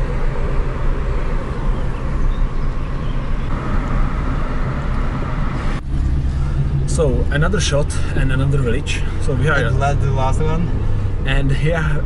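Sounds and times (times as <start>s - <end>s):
car engine drone: 0.0s - 12.0s
road rumble: 0.0s - 12.0s.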